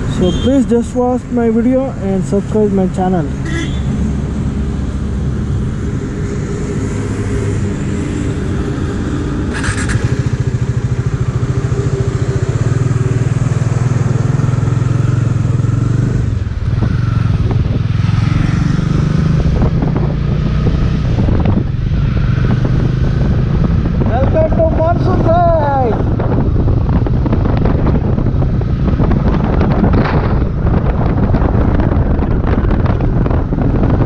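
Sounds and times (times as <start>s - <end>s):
motorcycle engine revving: 2.4s - 34.0s.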